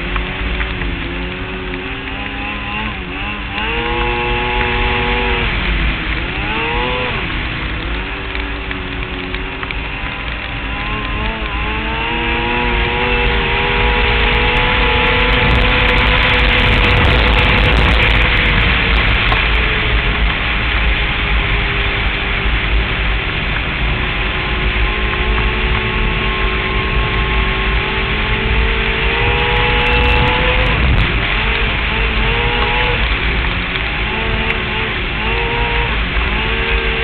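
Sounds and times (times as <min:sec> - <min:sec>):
snowmobile engine running: 0:00.0 - 0:37.0
steady rushing noise: 0:00.0 - 0:37.0.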